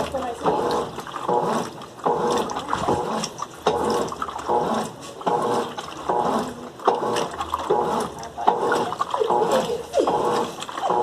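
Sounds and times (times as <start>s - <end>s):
washing machine sloshing laundry: 0.0s - 11.0s.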